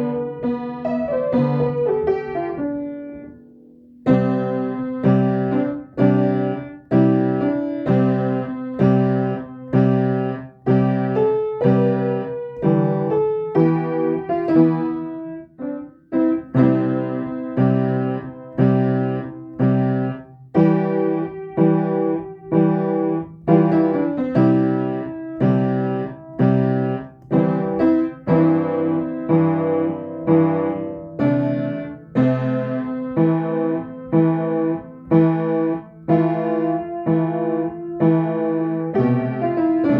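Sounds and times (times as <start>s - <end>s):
gentle piano piece: 0.0s - 39.9s.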